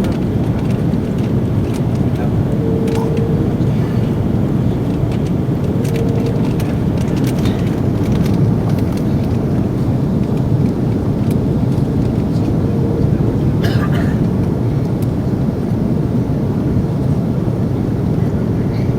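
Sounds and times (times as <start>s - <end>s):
airplane engines roaring in cabin: 0.0s - 18.9s
faint hum: 0.0s - 18.9s.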